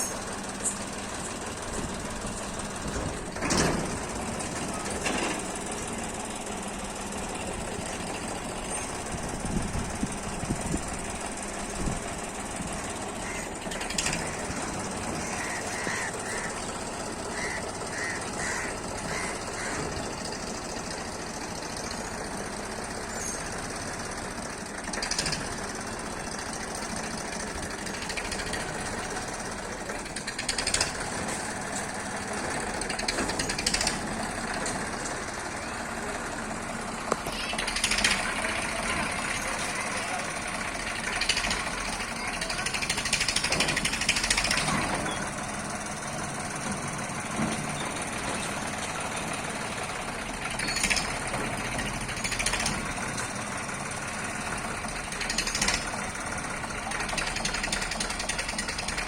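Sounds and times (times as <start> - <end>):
tractor engine knocking: 0.0 - 59.0.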